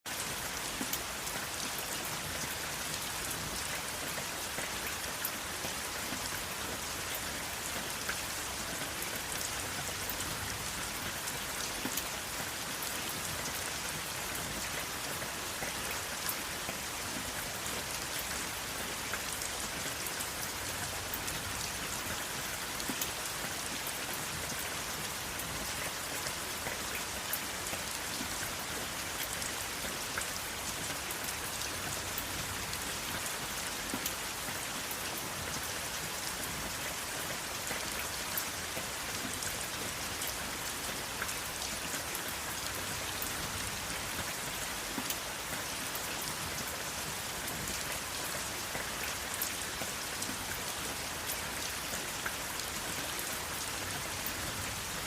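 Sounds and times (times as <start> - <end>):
steady rain falling: 0.0 - 55.0
raindrops ticking on a surface: 0.1 - 55.0.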